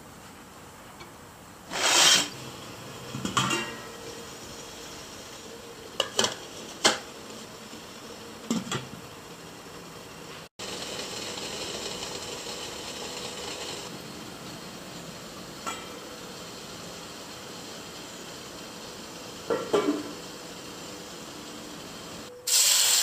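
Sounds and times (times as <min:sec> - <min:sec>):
gas burner hissing: 0:01.6 - 0:23.0.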